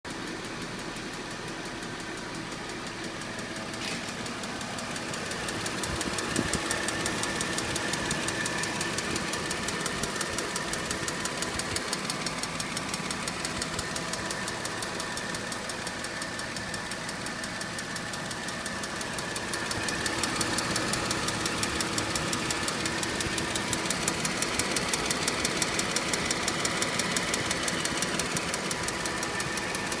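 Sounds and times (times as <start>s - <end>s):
car engine running: 0.1s - 30.0s
fast even engine ticking: 0.1s - 30.0s.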